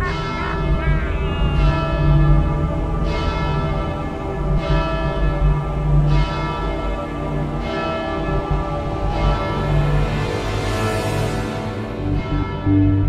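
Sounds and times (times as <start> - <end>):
bell tolling: 0.0 - 13.0
low steady drone: 0.0 - 13.0.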